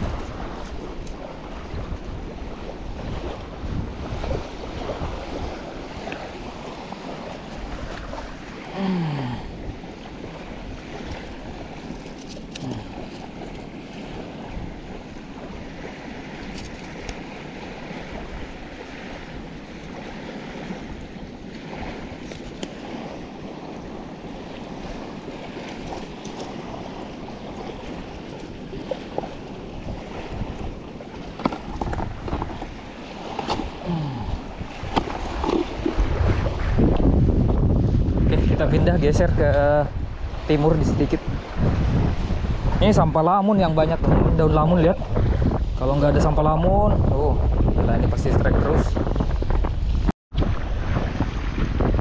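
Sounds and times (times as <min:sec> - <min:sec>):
small waves washing on beach: 0:00.0 - 0:52.0
wind buffeting microphone: 0:00.0 - 0:52.0.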